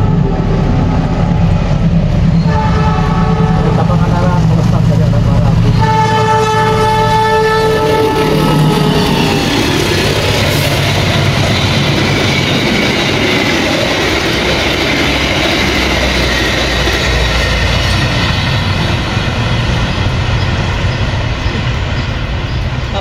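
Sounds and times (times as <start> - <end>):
train passing at speed: 0.0 - 23.0.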